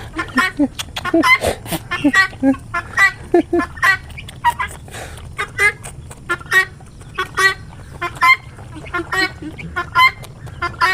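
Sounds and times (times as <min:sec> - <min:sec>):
poultry honking: 0:01.2 - 0:04.7, 0:05.4 - 0:10.9.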